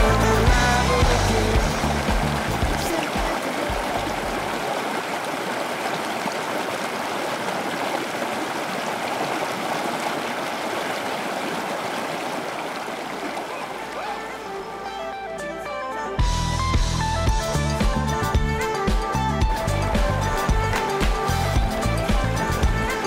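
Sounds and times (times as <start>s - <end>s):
flowing river rushing: 0.0s - 15.8s, 19.6s - 23.0s.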